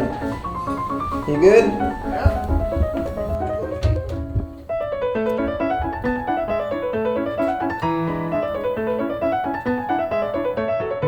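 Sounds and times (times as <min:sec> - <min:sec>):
quick piano run: 0:00.0 - 0:11.0.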